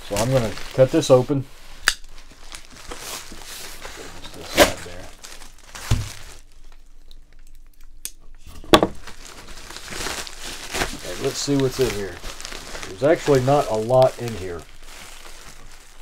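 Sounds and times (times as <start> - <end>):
plastic bag crinkling and tearing: 0.0 - 7.8, 8.9 - 16.0.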